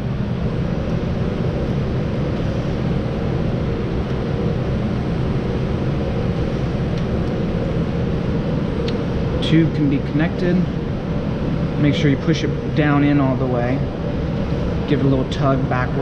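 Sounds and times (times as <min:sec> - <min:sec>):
faint hum: 0:00.0 - 0:16.0
ventilation fan whoosh: 0:00.0 - 0:16.0.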